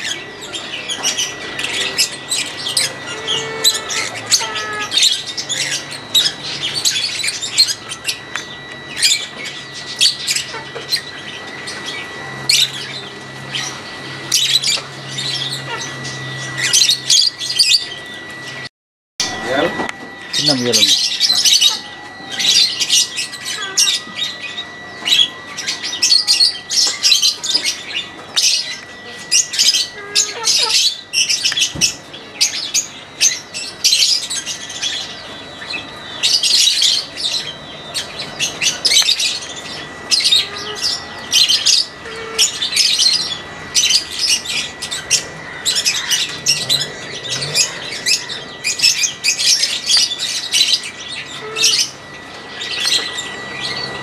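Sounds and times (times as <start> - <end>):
flock of birds chirping: 0.0 - 54.0
thin high tone: 0.0 - 54.0.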